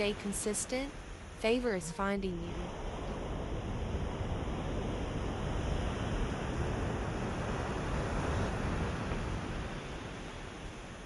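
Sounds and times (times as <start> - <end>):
ocean waves washing on shore: 0.0 - 11.0.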